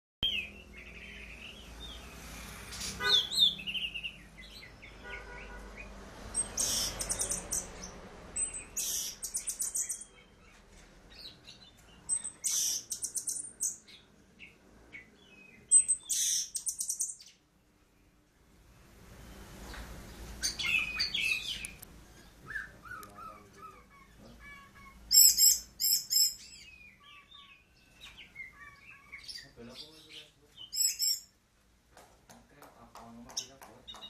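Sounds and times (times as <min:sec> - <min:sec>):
soft bird chirps: 0:00.2 - 0:18.2, 0:19.1 - 0:31.4.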